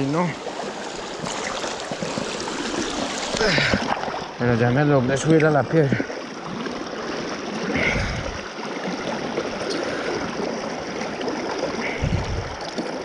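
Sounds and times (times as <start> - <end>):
river current rushing around legs: 0.0 - 13.0.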